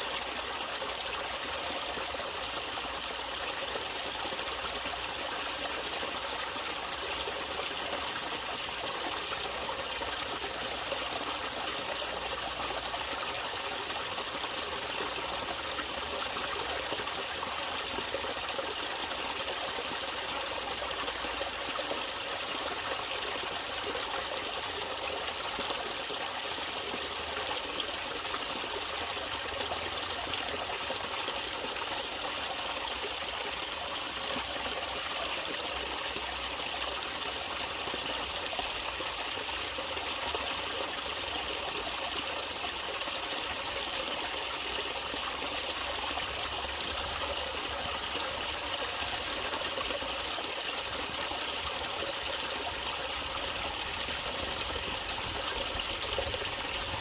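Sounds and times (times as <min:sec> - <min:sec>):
running water flowing: 0:00.0 - 0:57.0.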